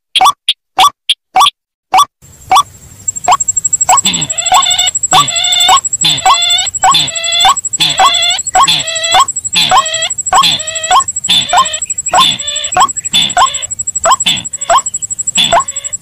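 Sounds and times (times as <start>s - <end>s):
crake calls: 2.4s - 16.0s
waterhen calls: 2.5s - 16.0s
thin high tone: 3.0s - 16.0s.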